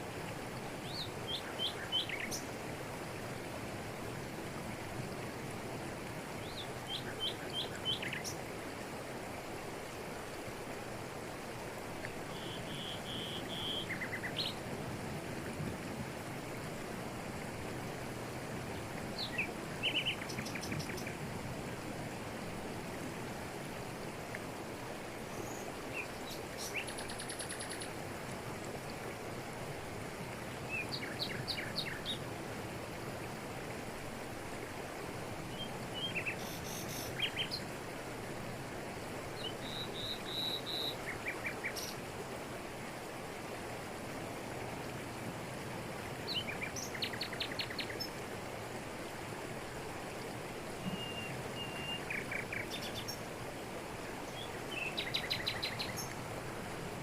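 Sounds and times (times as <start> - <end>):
waterfall rushing over rocks: 0.0 - 57.0.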